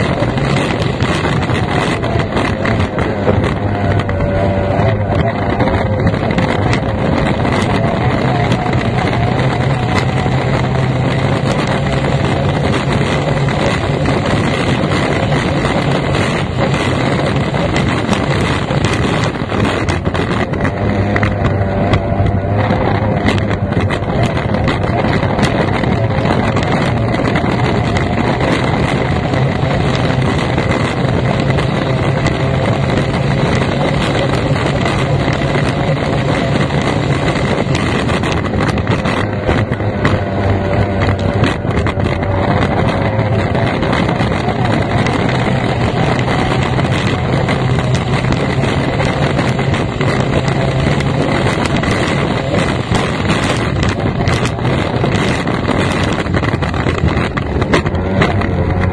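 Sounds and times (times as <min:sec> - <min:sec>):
outboard engine running hard: 0:00.0 - 0:58.9
wind noise on microphone: 0:00.0 - 0:58.9.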